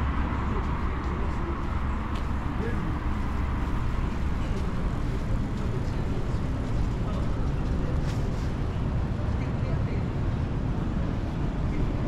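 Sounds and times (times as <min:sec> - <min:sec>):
faint voices of passers-by: 0:00.0 - 0:12.0
road traffic rumble: 0:00.0 - 0:12.0.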